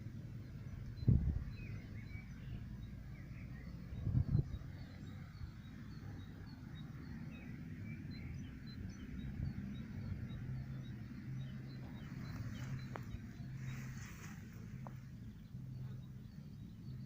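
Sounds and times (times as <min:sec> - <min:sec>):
low steady rumble: 0:00.0 - 0:17.0
small birds chirping: 0:00.0 - 0:17.0.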